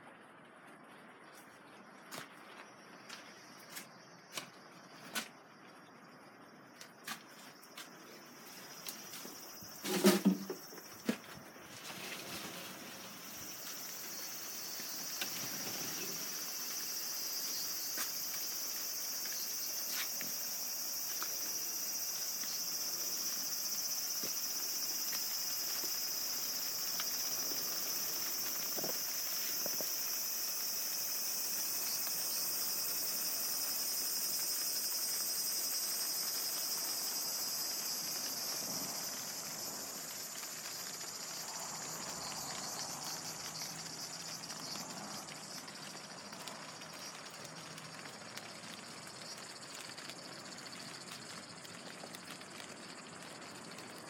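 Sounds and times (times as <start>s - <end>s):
insects chorus: 0.8s - 54.0s.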